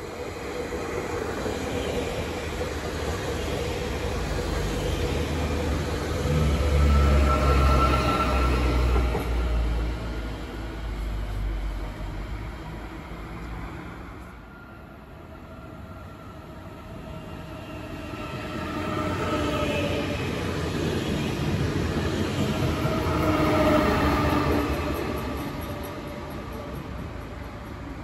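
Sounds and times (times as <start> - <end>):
low rumble of train: 0.0 - 28.0
train passing close by: 0.0 - 28.0.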